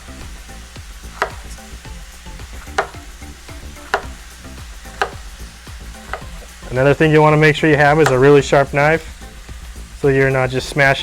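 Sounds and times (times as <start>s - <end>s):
meat sizzling in skillet: 0.0s - 11.0s.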